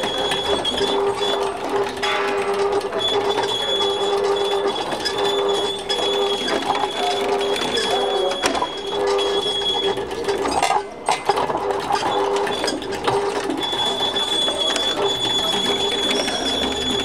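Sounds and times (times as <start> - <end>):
steady mechanical tone: 0.0 - 17.0.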